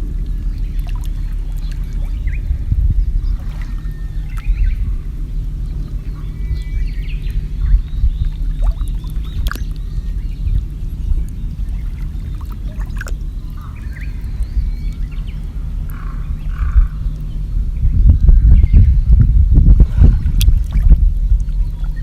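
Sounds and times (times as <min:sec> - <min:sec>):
water sloshing around a kayak: 0:00.0 - 0:17.8, 0:19.7 - 0:22.0
birds chirping: 0:00.0 - 0:22.0
wind rumble on microphone: 0:00.0 - 0:22.0.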